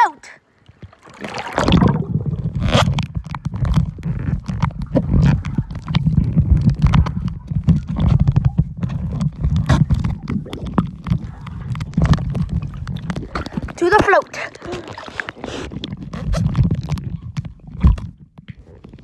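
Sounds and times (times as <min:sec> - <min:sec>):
underwater rumble and churning: 0:00.5 - 0:19.0.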